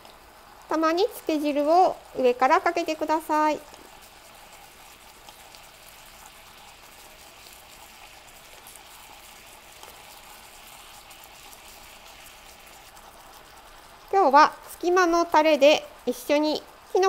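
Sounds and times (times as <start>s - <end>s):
sauce bubbling in a frying pan: 0.0s - 17.0s.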